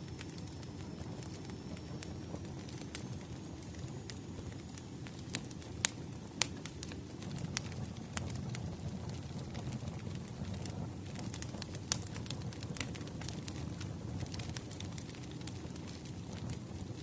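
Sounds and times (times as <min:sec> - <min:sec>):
wood fire crackling: 0:00.0 - 0:17.0
loud fire snaps: 0:00.1 - 0:17.0.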